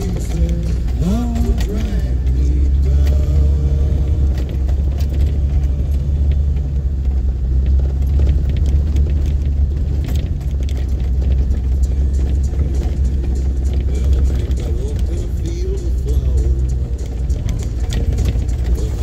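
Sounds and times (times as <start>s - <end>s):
cab rattles and clicks: 0.0s - 19.0s
vehicle engine drone: 0.0s - 19.0s.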